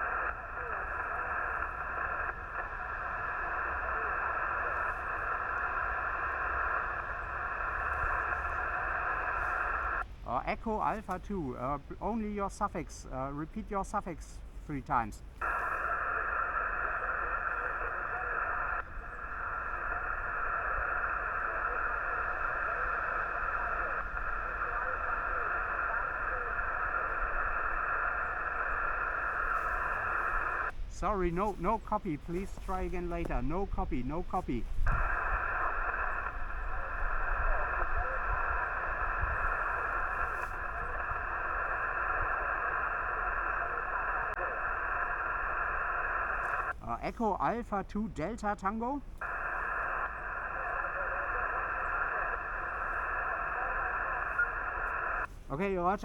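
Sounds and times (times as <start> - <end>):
faint wavering weak signals: 0.0 - 10.0, 10.8 - 47.8, 49.2 - 56.0
radio static hiss: 0.0 - 56.0.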